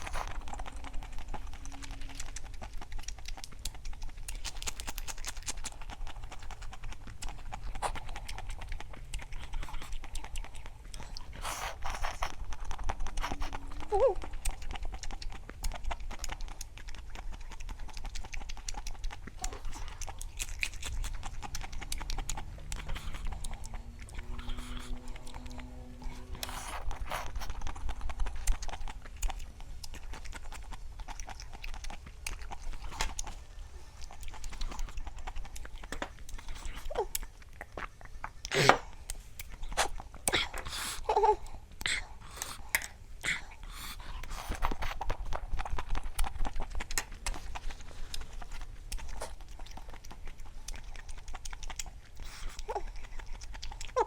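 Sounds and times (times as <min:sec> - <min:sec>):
chewing with wet mouth clicks: 0:00.0 - 0:54.0.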